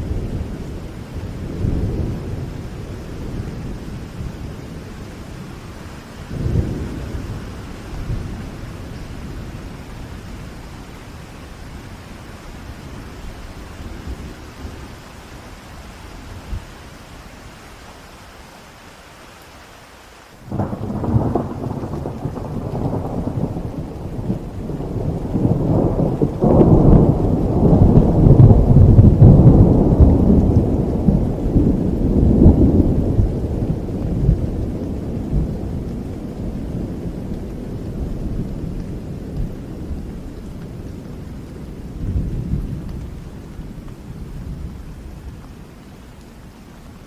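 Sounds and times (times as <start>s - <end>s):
thunder rumbling: 0.0s - 15.0s, 20.5s - 45.7s
steady rain: 0.0s - 47.0s.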